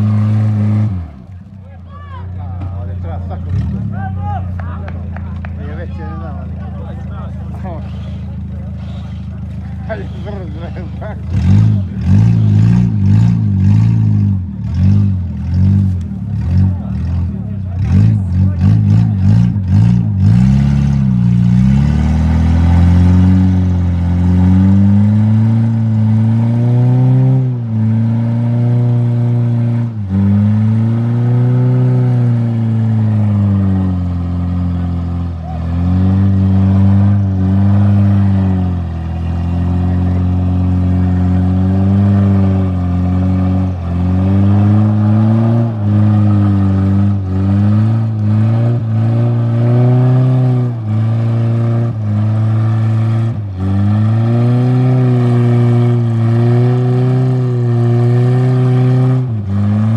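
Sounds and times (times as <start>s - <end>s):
engine revving hard: 0.0s - 1.2s, 9.9s - 59.9s.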